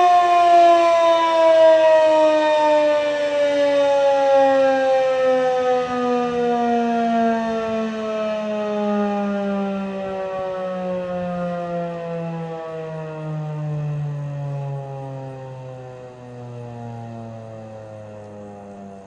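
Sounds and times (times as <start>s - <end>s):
siren winding down: 0.0s - 19.0s.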